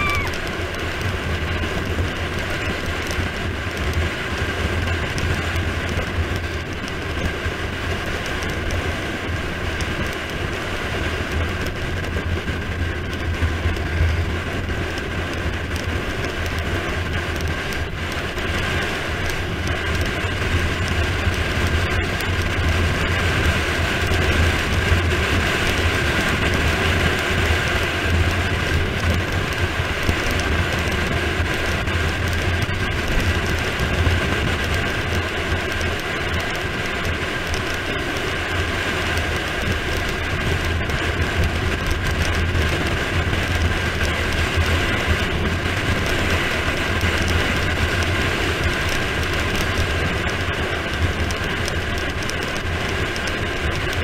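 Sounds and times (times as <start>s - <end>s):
tyres rumbling on asphalt: 0.0s - 54.0s
wind rushing over microphone: 0.0s - 54.0s.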